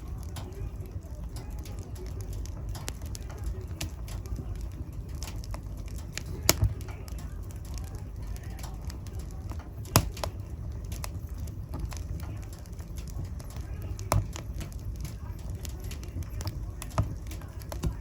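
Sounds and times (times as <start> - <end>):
fire rumbling and crackling: 0.0 - 18.0
loud sharp pops from fire: 0.0 - 18.0.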